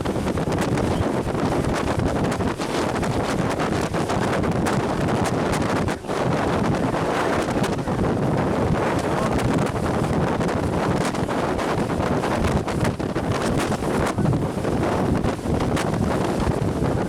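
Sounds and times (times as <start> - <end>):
strong storm wind on microphone: 0.0 - 17.0.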